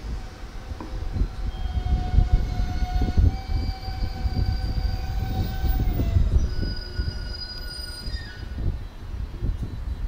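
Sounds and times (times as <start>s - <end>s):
electric train motor whine: 0.0s - 10.0s
train wheel rumble: 0.0s - 10.0s.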